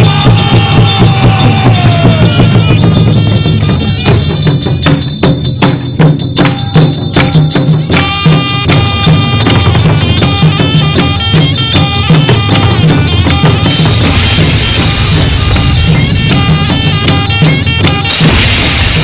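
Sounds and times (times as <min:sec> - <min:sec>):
music with drum beat and melody: 0:00.0 - 0:19.0
sharp percussion strikes: 0:00.0 - 0:19.0.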